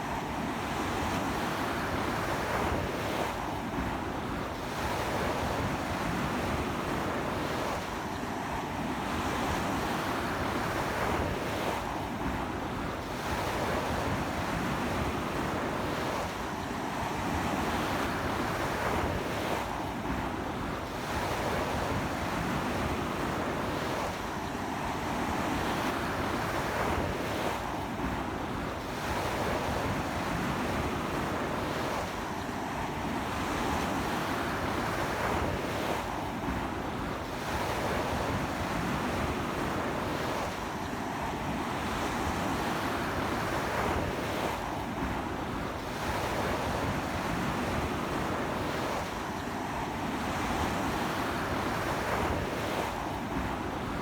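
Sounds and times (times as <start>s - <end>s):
strong sea wind: 0.0s - 54.0s
waves breaking on shore: 0.0s - 54.0s.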